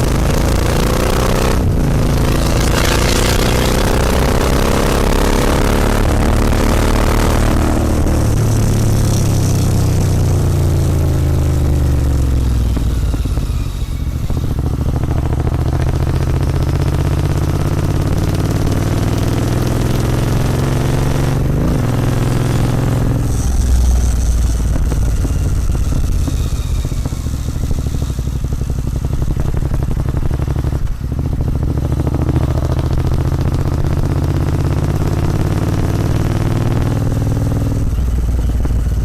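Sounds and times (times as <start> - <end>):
motorcycle engine while riding: 0.0 - 39.0.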